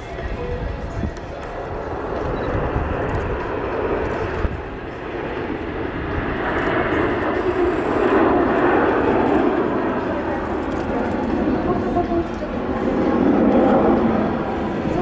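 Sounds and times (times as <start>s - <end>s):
jet engines flying past: 0.0s - 15.0s.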